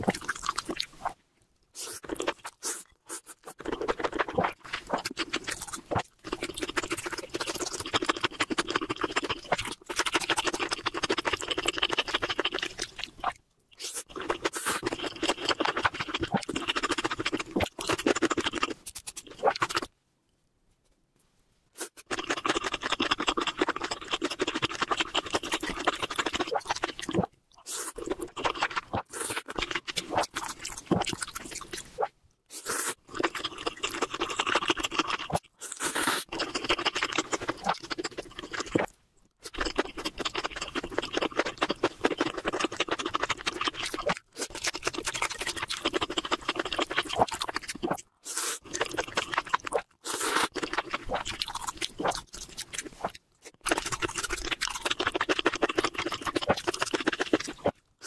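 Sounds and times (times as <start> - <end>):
person chewing noodles: 0.0 - 1.2, 1.8 - 19.9, 21.8 - 58.0.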